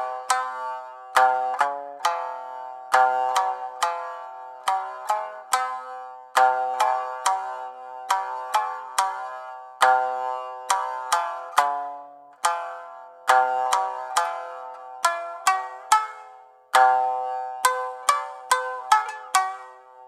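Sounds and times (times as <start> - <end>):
plucked string instrument melody: 0.0 - 20.0.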